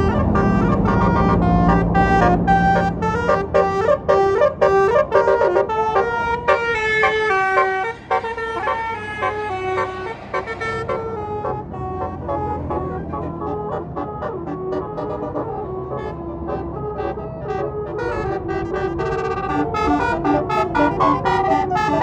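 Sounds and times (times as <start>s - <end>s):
musical air horn playing a tune: 0.0s - 22.0s.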